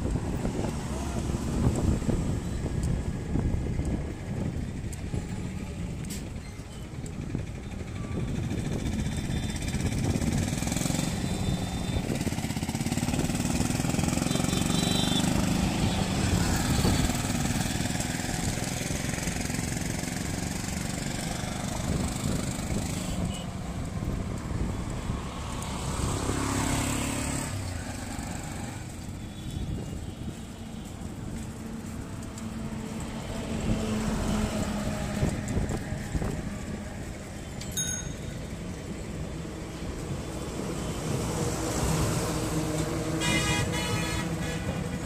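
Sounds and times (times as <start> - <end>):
vehicles passing along street: 0.0 - 45.0.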